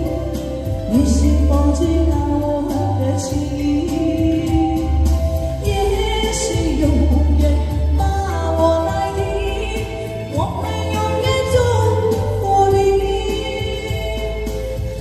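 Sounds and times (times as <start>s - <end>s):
backing track with deep bass: 0.0s - 15.0s
woman singing into microphone: 0.0s - 15.0s.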